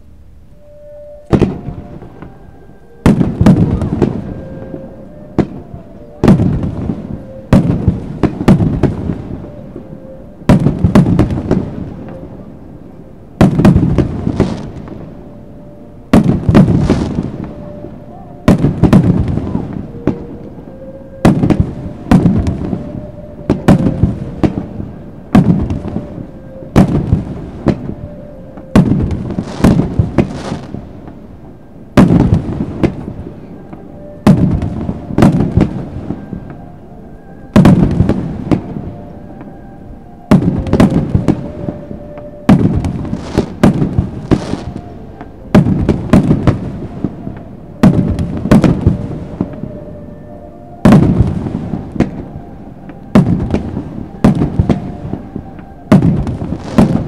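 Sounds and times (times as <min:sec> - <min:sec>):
fireworks bursting with loud bangs: 0:00.6 - 0:02.4, 0:03.0 - 0:12.5, 0:13.3 - 0:15.3, 0:16.1 - 0:36.7, 0:37.5 - 0:39.6, 0:40.3 - 0:49.8, 0:50.8 - 0:57.0.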